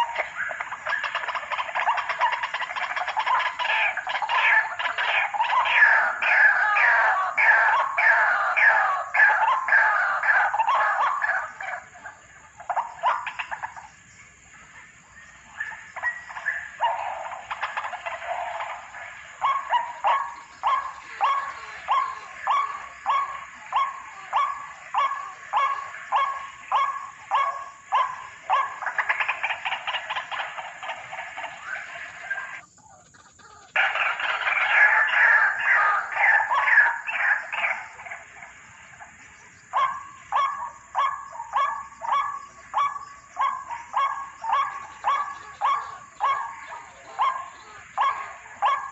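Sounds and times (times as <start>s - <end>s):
waterhen calling: 0.0s - 48.9s.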